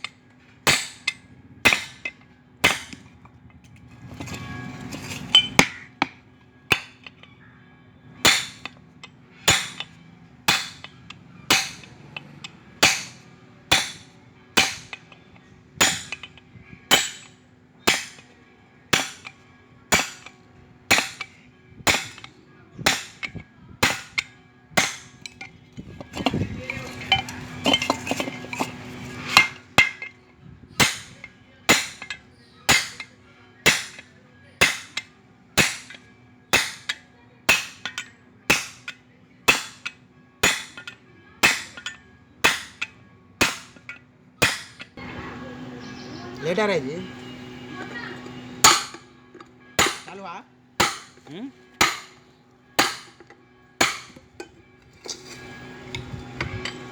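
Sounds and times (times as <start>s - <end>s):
hammer striking steel: 0.0s - 3.1s, 4.2s - 7.2s, 8.2s - 8.8s, 9.4s - 45.0s, 47.8s - 56.9s.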